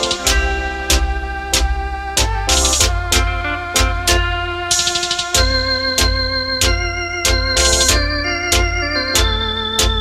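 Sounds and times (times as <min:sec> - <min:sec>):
drum machine beat: 0:00.0 - 0:10.0
electronic keyboard melody: 0:00.0 - 0:10.0
steady bass line: 0:00.0 - 0:10.0.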